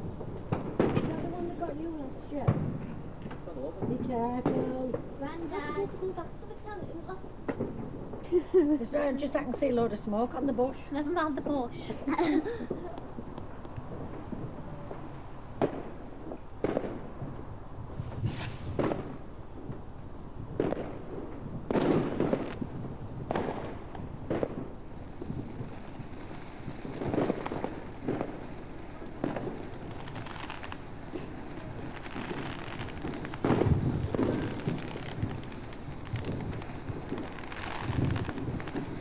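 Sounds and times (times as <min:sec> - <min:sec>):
fireworks bangs and pops: 0:00.0 - 0:39.0.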